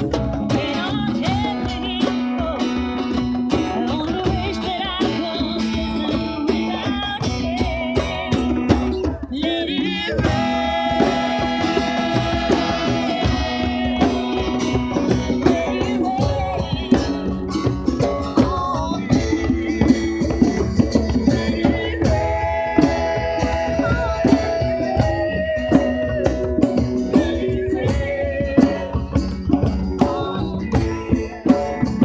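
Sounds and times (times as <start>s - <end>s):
acoustic guitar strumming: 0.0s - 32.0s
woman singing soulful song: 0.4s - 3.0s, 3.6s - 32.0s.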